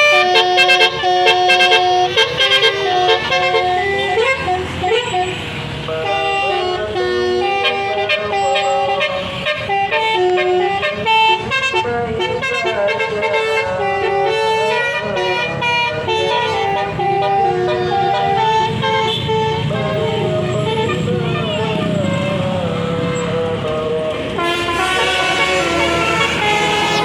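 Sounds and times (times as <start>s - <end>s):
musical air horn melody: 0.0s - 23.4s, 24.2s - 27.0s
low engine rumble: 0.0s - 27.0s.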